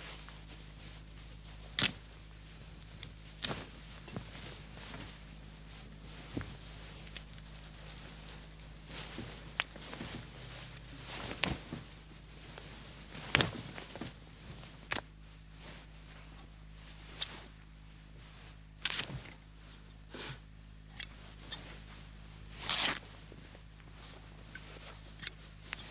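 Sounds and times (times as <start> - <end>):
cloth rustling: 0.0 - 19.8, 21.1 - 25.9
low steady hum: 0.0 - 25.9.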